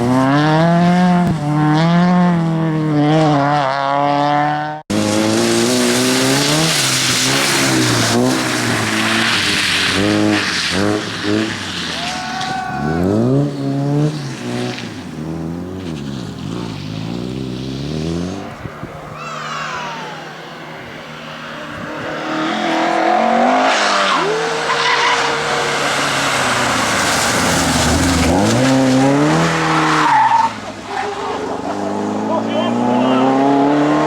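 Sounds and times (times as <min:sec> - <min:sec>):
rally car engines revving: 0:00.0 - 0:34.0
tyre noise: 0:04.9 - 0:34.0.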